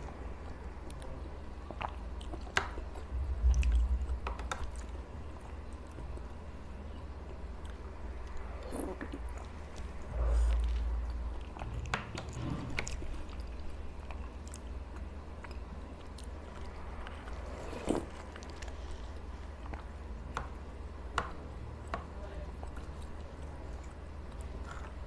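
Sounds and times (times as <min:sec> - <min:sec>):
chewing and eating: 0:00.0 - 0:20.6, 0:21.8 - 0:25.0
steady low hum: 0:00.0 - 0:25.0.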